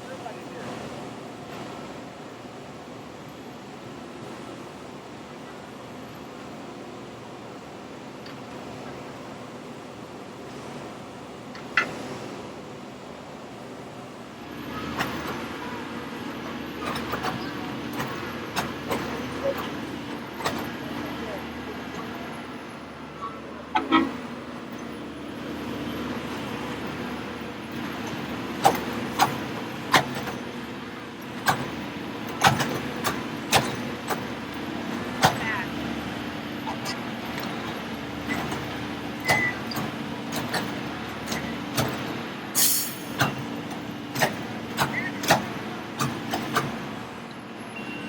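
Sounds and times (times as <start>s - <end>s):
track machinery engine hum: 0.0s - 48.0s.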